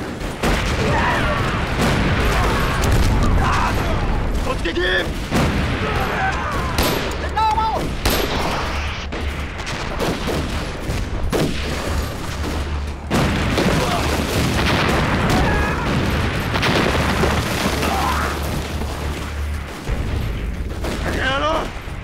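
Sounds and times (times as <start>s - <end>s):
explosions: 0.0s - 22.0s
rifle fire: 0.0s - 22.0s.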